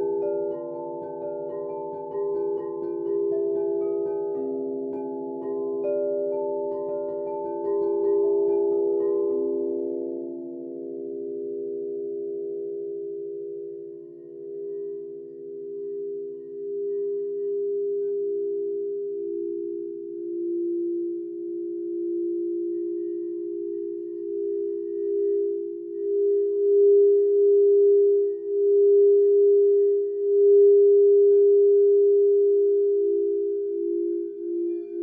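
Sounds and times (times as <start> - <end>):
crystal singing bowls: 0.0 - 35.0.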